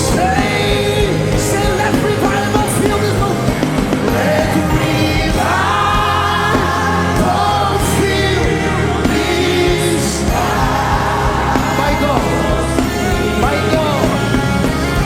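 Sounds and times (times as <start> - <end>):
band with steady bass: 0.0 - 15.0
voices singing gospel: 0.0 - 15.0.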